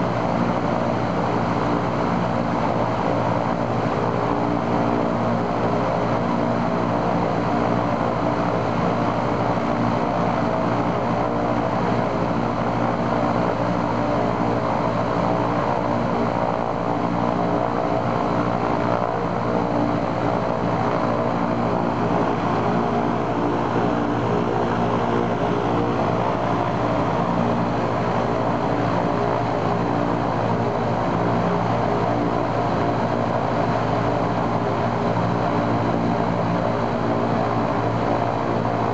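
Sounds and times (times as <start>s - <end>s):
radial engine and propeller running: 0.0s - 38.9s.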